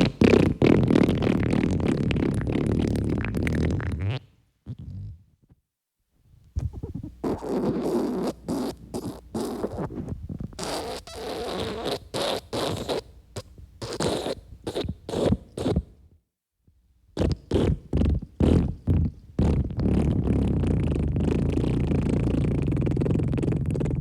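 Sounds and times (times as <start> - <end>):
cartoon fart noises: 0.0 - 5.2, 6.6 - 15.9, 17.2 - 24.0.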